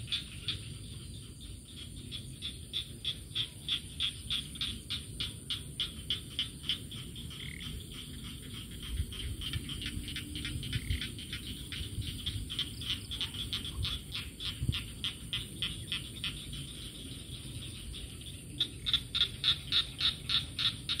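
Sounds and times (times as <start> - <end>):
frogs calling: 0.0 - 21.0.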